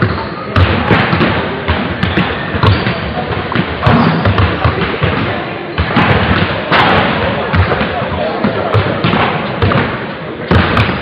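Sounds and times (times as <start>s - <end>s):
basketballs bouncing on hardwood: 0.0s - 11.0s
voices in a hall: 0.0s - 11.0s.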